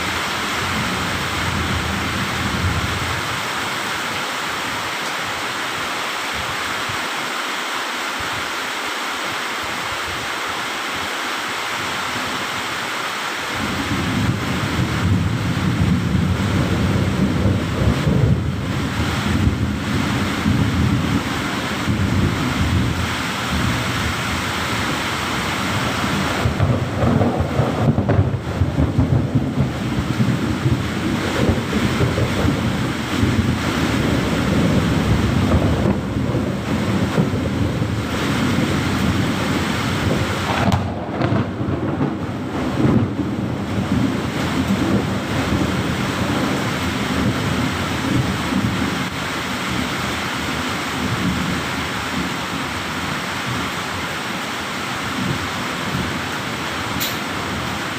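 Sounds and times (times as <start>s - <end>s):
thunder rumbling: 0.0s - 5.4s, 13.5s - 54.1s, 55.0s - 57.9s
steady rain: 0.0s - 57.9s.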